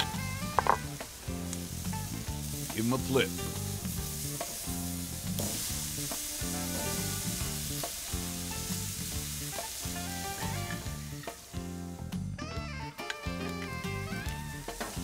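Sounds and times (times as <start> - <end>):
background music: 0.0 - 15.0
chicken wings sizzling on grill: 0.0 - 15.0.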